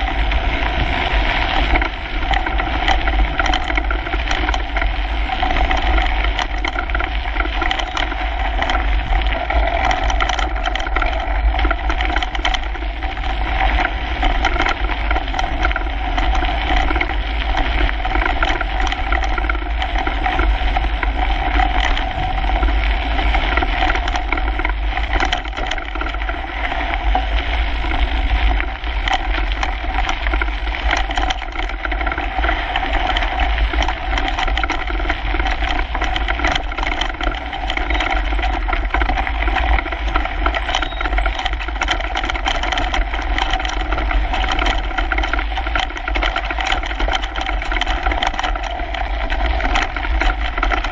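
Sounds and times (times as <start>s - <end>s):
bike rattling and knocking: 0.0s - 50.9s.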